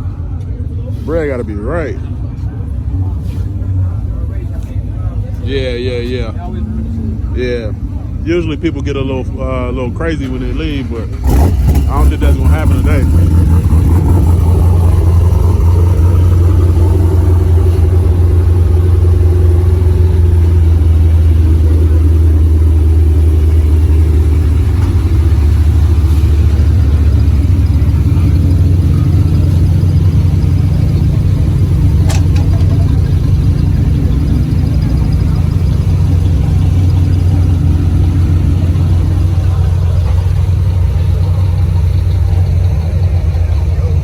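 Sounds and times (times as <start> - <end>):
car engine rumbling: 0.0 - 44.0.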